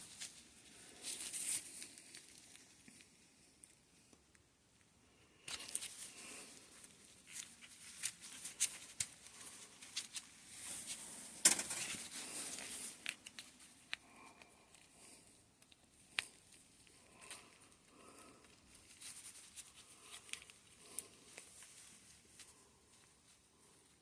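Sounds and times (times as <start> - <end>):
rustling and crinkling: 0.0 - 24.0.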